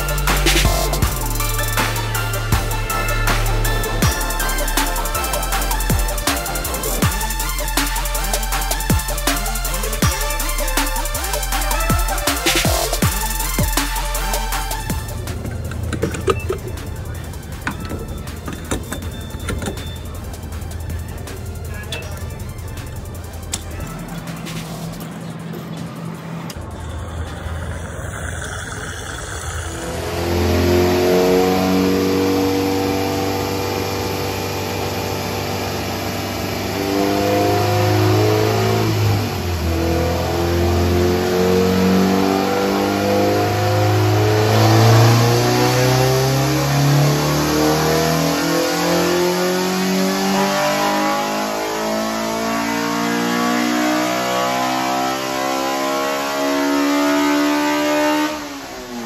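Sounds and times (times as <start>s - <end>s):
car engine revving on a dyno: 0.0s - 59.0s.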